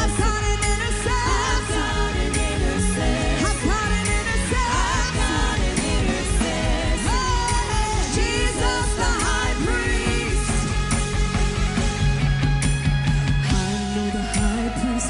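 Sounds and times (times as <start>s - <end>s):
steady drum beat: 0.0s - 14.8s.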